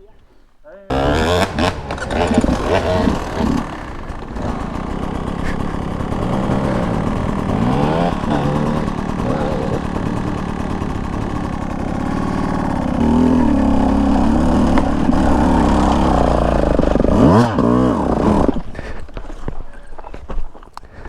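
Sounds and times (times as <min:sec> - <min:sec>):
dirt bike engine revving: 0:00.9 - 0:20.2.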